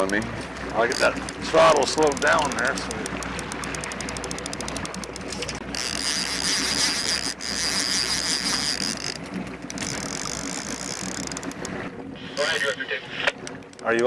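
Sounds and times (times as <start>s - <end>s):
fishing reel clicking: 0.0s - 11.8s
low engine hum: 0.0s - 14.0s
reel drag buzzing: 0.0s - 14.0s.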